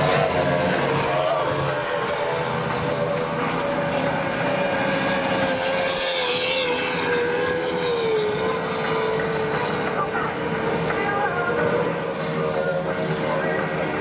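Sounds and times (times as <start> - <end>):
boat engine passing: 0.0 - 14.0.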